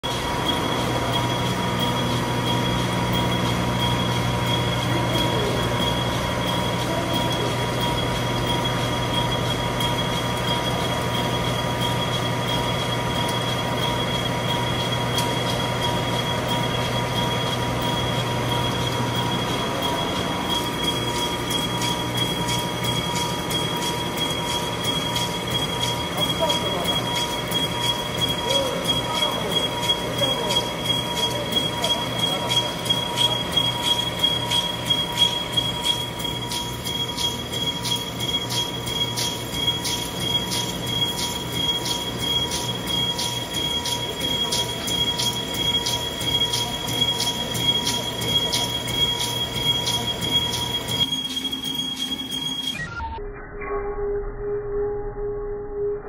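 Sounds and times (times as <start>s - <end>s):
machine hum: 0.0s - 53.2s
high steady whining tones: 0.0s - 53.4s.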